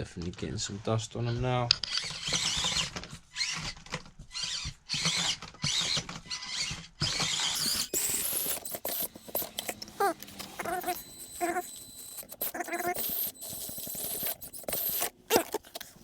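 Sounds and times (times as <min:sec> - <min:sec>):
small electric motor whining: 0:01.9 - 0:16.0.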